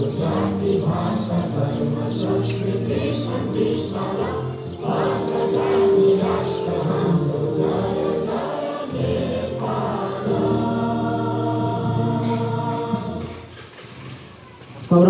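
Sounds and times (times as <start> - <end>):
voices singing in chorus: 0.0 - 13.7.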